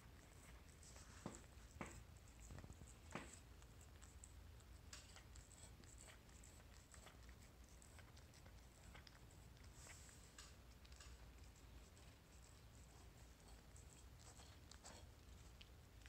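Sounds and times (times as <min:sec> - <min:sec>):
cat licking a ceramic plate: 0:00.0 - 0:16.0.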